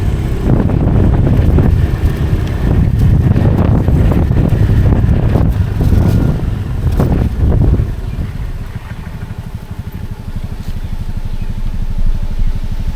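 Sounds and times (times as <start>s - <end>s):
motorcycle engine idling: 0.0s - 12.9s
wind noise on microphone: 0.0s - 12.9s.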